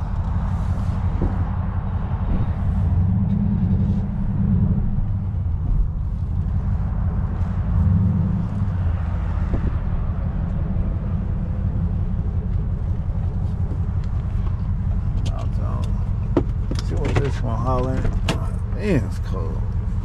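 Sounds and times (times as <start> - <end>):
vehicle engine and tyres rumbling: 0.0 - 20.0.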